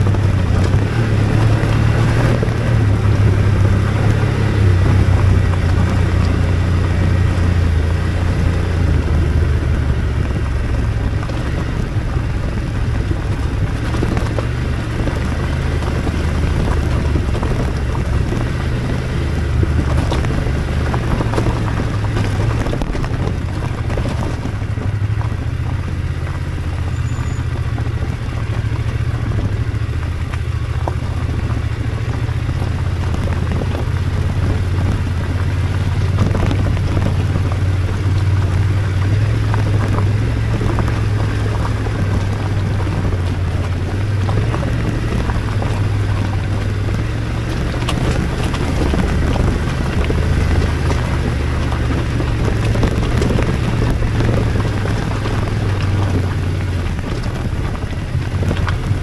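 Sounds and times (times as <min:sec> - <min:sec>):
motorcycle engine running: 0:00.0 - 0:59.0
stones crackling under tyres: 0:00.0 - 0:59.0.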